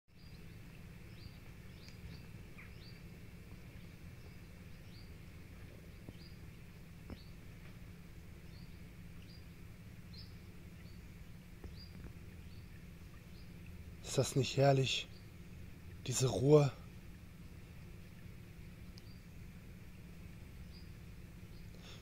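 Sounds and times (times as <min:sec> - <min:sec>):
bird chirping: 0:00.1 - 0:22.0
low background noise: 0:00.1 - 0:22.0.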